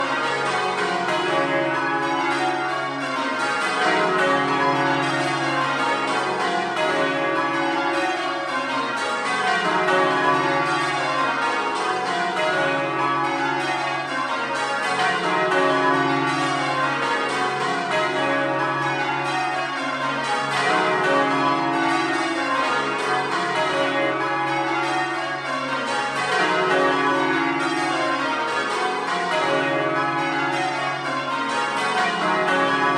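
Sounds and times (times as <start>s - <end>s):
tower bells ringing: 0.0s - 32.9s.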